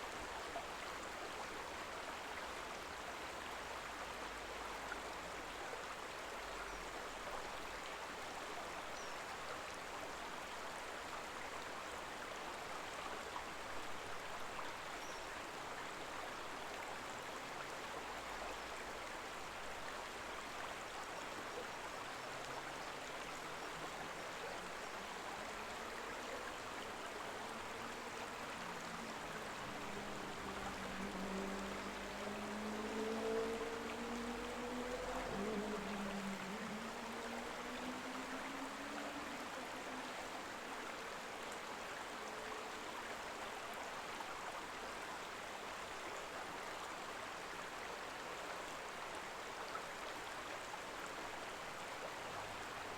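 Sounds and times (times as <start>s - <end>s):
stream water rushing: 0.0s - 52.9s.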